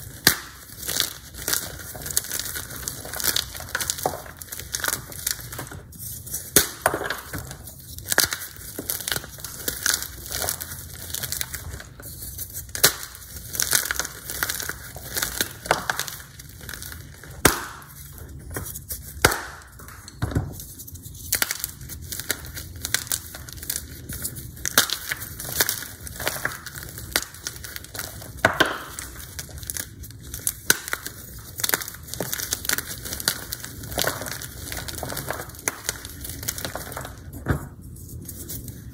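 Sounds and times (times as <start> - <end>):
chalk blocks crunching and cracking: 0.0 - 38.9.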